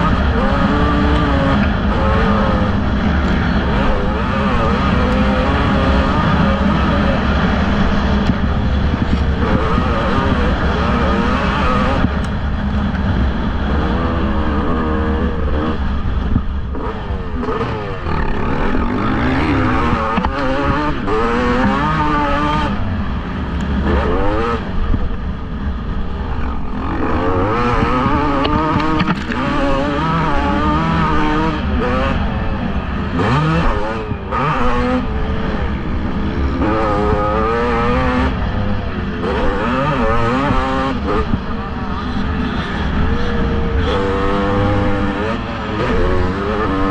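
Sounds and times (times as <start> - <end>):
motocross bikes revving: 0.0 - 46.9.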